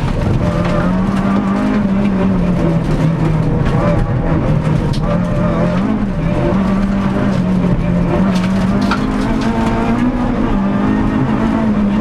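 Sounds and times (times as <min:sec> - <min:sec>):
car engine from inside cabin: 0:00.0 - 0:12.0
road and tyre noise: 0:00.0 - 0:12.0.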